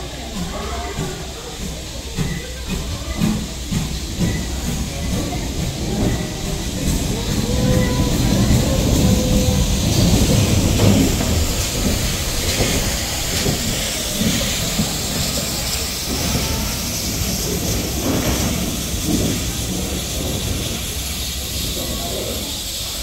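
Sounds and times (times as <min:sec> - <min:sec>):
steam hissing: 0:00.0 - 0:23.0
steam locomotive rumble: 0:00.0 - 0:23.0.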